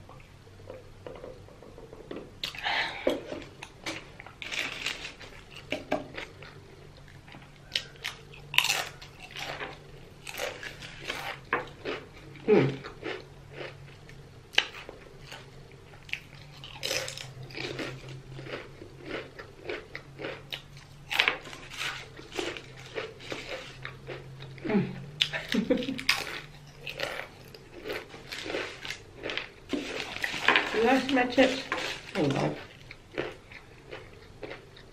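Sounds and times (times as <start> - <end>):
crunchy chewing of food: 3.2 - 34.9.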